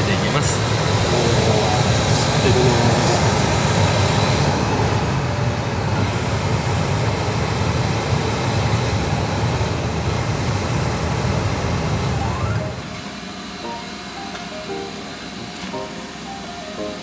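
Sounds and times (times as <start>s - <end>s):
air conditioning blower rushing: 0.0s - 17.0s.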